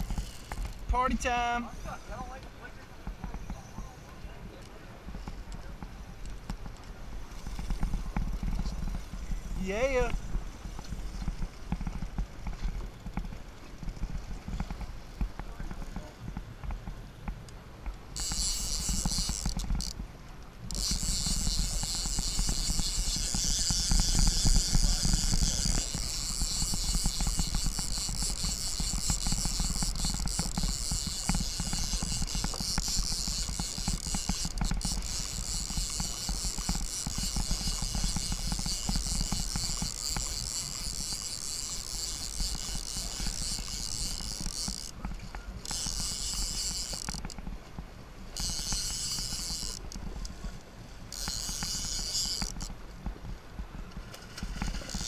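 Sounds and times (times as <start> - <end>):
fishing reel whirring: 0.0 - 2.4, 5.1 - 14.9, 18.1 - 20.0, 20.6 - 47.5, 48.2 - 52.8, 54.4 - 55.0.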